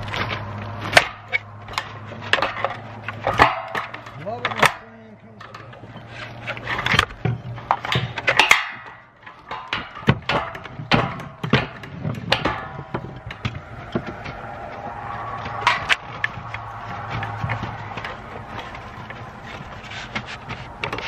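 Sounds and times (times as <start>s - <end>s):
shingles scraping and crunching: 0.0s - 21.0s.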